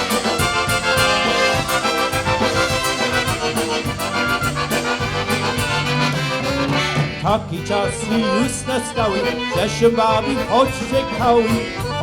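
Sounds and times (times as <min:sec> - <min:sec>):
polka band playing: 0:00.0 - 0:12.0.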